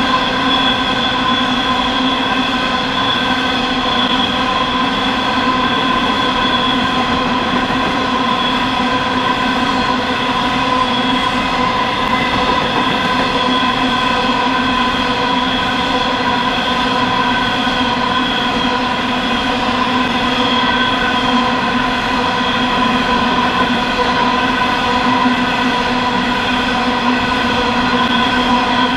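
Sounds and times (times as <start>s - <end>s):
train wheels rumbling on rail: 0.0s - 28.9s
whine of held tones: 0.0s - 28.9s.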